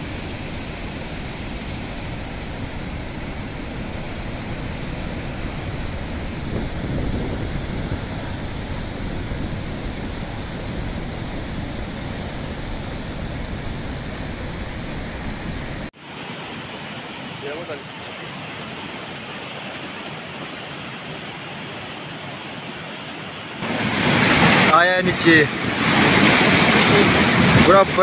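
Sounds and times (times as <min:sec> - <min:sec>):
flooded stream rushing: 0:00.0 - 0:28.0.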